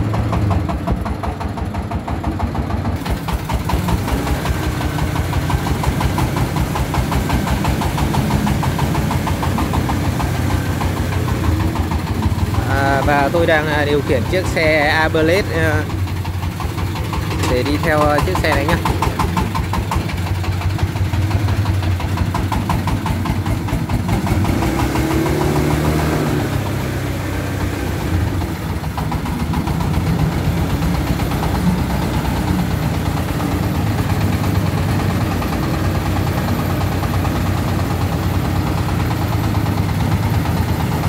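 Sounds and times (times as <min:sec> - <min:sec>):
diesel farm truck chugging: 0:00.0 - 0:41.0
motorbike engine: 0:00.0 - 0:41.0.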